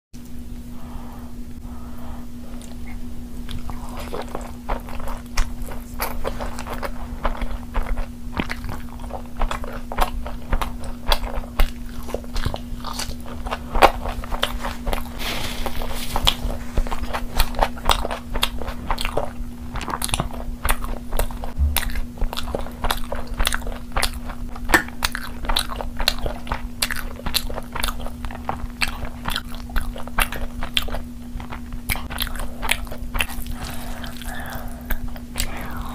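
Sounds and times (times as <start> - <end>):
steady low hum: 0.2 - 35.9
chewing and lip smacking: 2.5 - 35.9.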